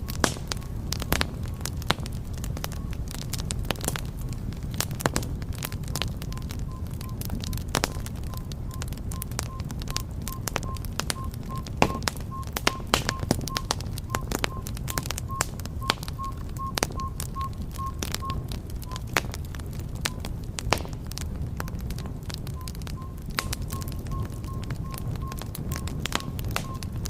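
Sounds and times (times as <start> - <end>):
low rumble of flames: 0.0 - 27.0
wood fire crackling: 0.0 - 27.0.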